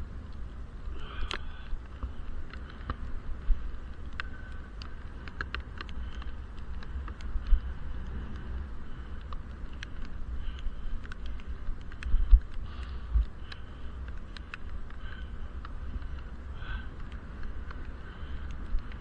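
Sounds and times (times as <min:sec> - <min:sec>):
muffled low rumble: 0:00.0 - 0:19.0.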